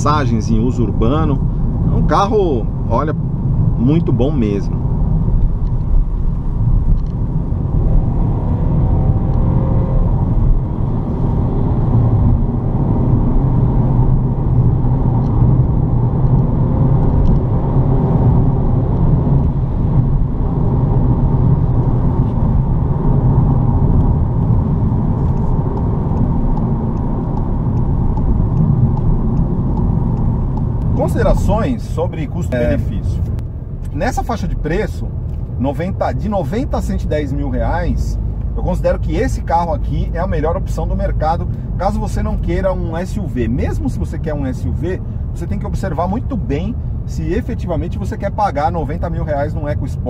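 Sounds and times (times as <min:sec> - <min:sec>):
car engine drone: 0:00.0 - 0:50.0
road and tyre rumble: 0:00.0 - 0:50.0.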